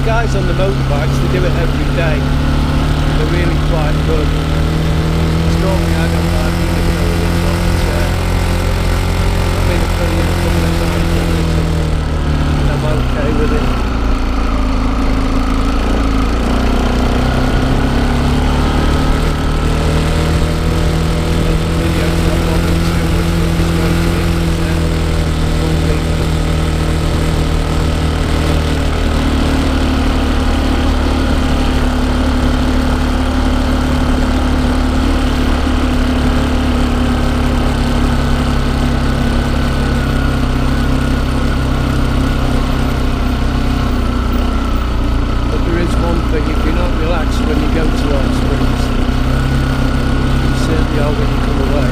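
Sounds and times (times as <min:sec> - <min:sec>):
small motorcycle engine running: 0:00.0 - 0:51.9.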